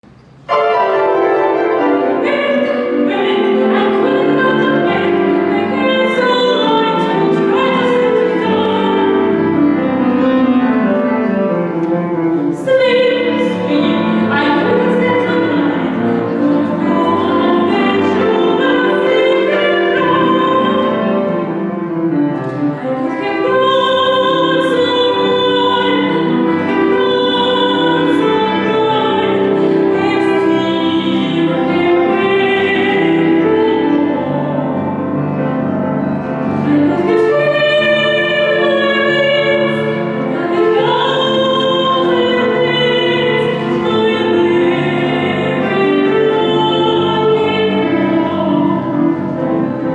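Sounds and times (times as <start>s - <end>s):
instrumental accompaniment: 0.0s - 49.9s
woman singing operatically: 1.2s - 9.6s, 12.5s - 21.4s, 23.0s - 34.8s, 36.7s - 49.0s.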